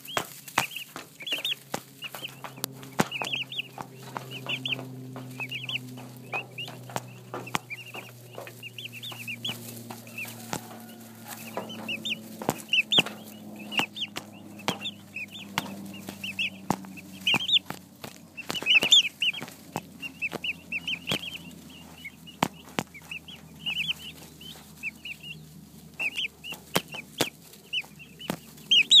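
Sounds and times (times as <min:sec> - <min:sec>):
beaks tapping on camera lens: 0:00.0 - 0:29.0
turkey chicks peeping: 0:00.0 - 0:29.0.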